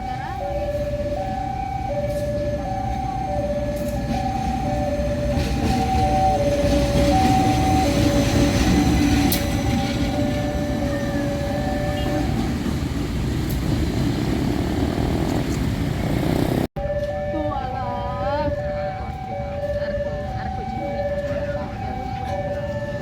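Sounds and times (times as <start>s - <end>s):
two-tone warning signal: 0.0s - 12.5s, 16.8s - 23.0s
train passing on rails: 0.0s - 23.0s.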